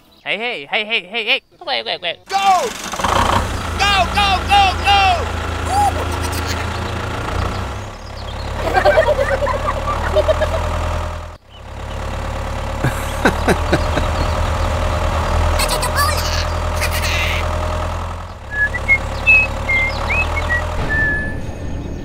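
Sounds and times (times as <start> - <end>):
engine idling: 2.3 - 21.3.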